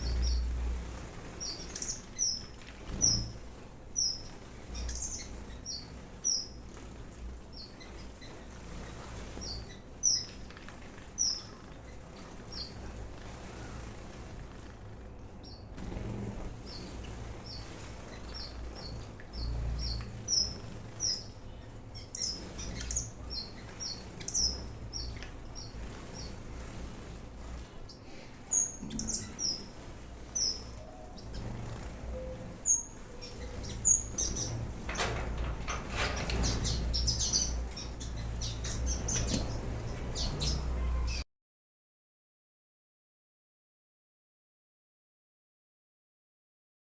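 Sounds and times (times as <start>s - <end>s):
small birds chirping: 0.0s - 41.2s
wings fluttering: 0.0s - 41.2s.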